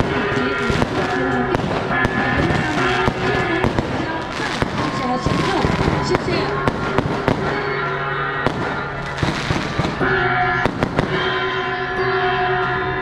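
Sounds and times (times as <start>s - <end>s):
firecrackers banging: 0.0s - 13.0s
sustained music tones: 0.0s - 13.0s.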